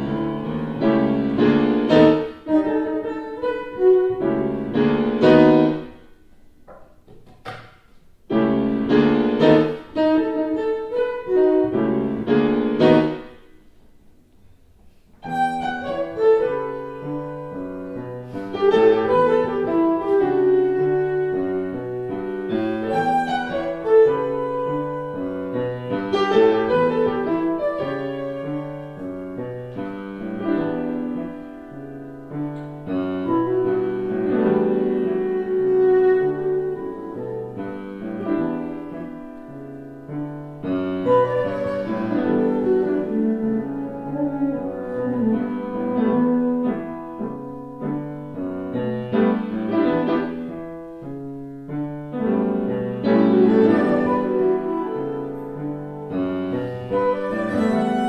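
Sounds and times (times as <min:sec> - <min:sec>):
grand piano: 0:00.0 - 0:58.0.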